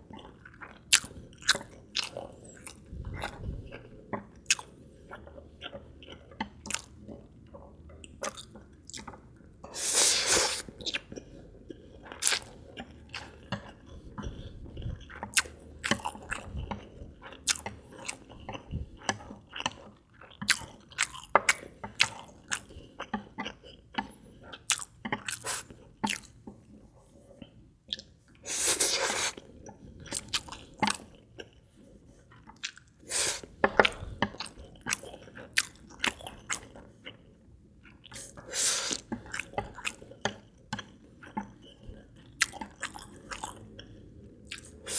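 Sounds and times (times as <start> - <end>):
chewing with wet clicks: 0.0 - 9.8, 10.6 - 44.9.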